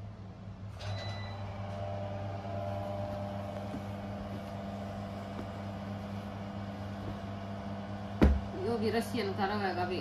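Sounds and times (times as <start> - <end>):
appliance electrical hum: 0.0 - 10.0.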